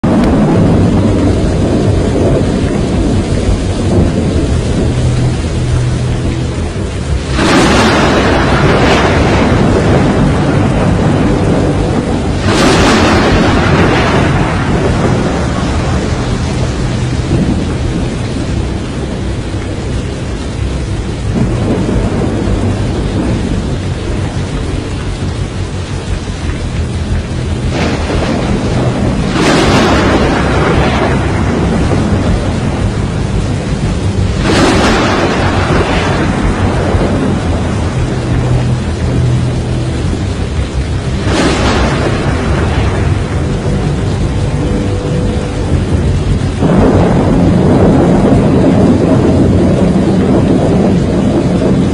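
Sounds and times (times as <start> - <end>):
heavy rain: 0.0 - 51.9
thunder rolling: 0.0 - 51.9
wind: 0.0 - 51.9.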